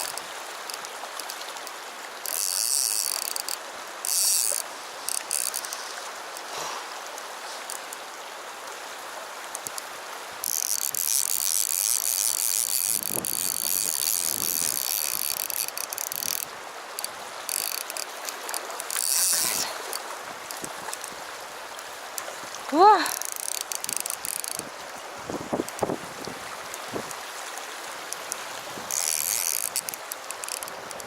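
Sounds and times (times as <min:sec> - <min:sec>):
fly reel drag buzzing: 0:00.0 - 0:08.2, 0:09.4 - 0:31.0.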